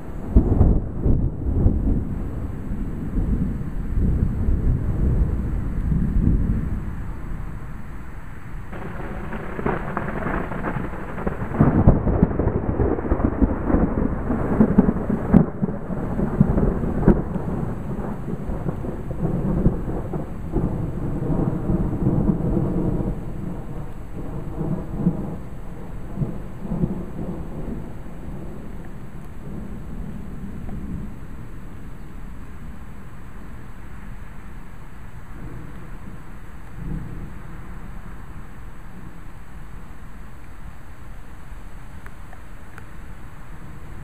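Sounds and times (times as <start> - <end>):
thunder rumbling: 0.0 - 40.1.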